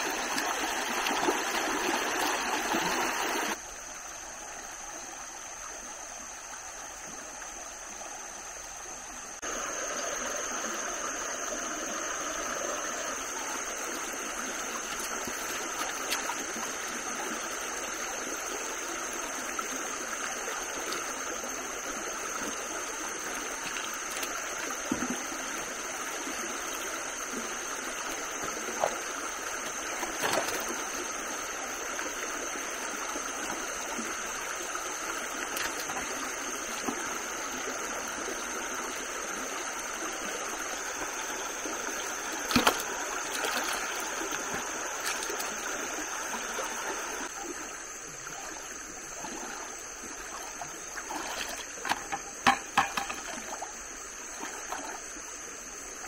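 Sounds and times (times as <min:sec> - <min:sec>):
stream rushing over stones: 0:00.0 - 0:03.9, 0:09.4 - 0:56.0.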